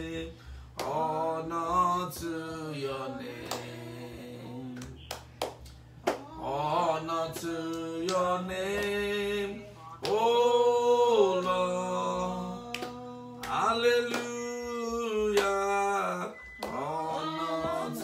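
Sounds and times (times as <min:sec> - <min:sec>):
man singing worship song: 0:00.0 - 0:05.1, 0:06.3 - 0:18.0.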